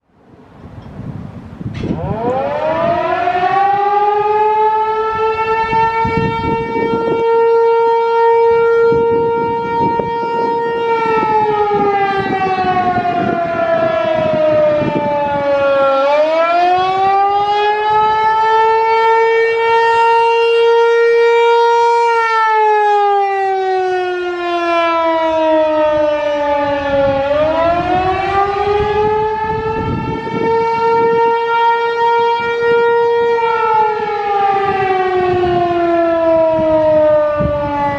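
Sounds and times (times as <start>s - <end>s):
warning siren wailing: 0.0s - 37.9s.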